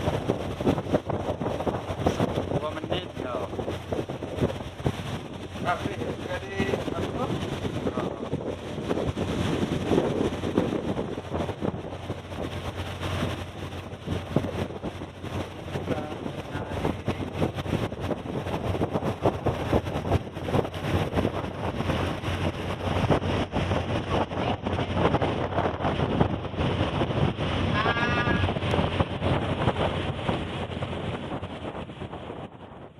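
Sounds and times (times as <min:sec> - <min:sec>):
ship engine humming: 0:00.0 - 0:32.2
wind buffeting microphone: 0:00.0 - 0:32.9.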